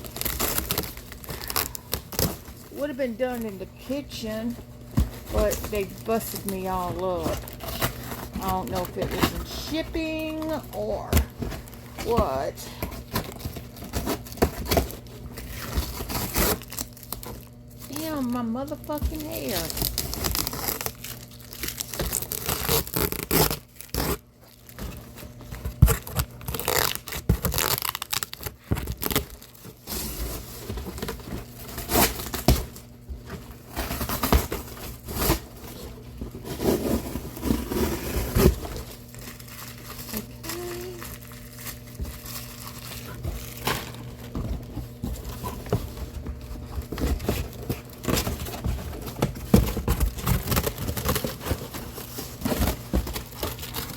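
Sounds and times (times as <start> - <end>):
cardboard box tearing: 0.0 - 3.4, 4.2 - 53.9.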